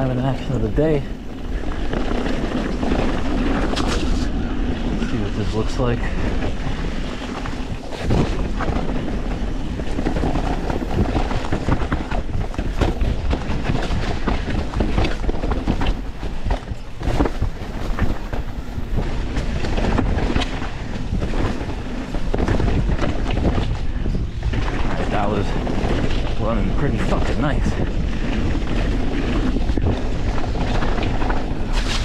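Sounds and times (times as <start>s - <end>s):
bike tyres knocking and clattering: 0.0s - 32.0s
wind rushing over camera: 0.0s - 32.0s.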